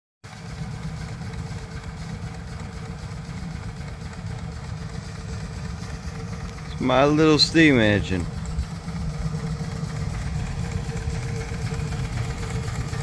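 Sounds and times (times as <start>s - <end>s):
steam engine running: 0.3s - 13.0s.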